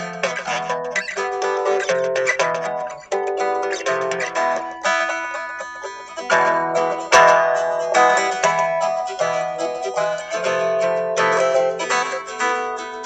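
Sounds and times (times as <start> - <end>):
guitar playing: 0.0 - 13.0.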